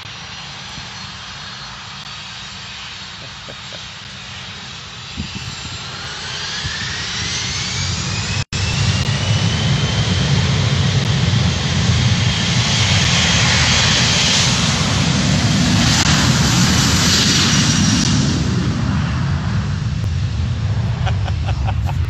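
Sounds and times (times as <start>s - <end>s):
jet engines spooling up: 0.0s - 22.0s.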